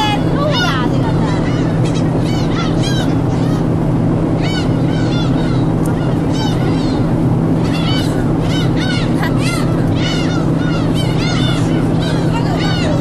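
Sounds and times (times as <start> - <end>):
gulls squealing: 0.0 - 13.0
steady low rumble: 0.0 - 13.0.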